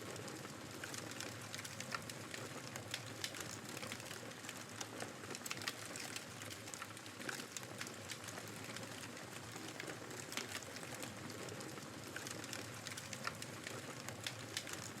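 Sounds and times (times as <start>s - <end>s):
wood fire crackling and popping: 0.4s - 15.0s.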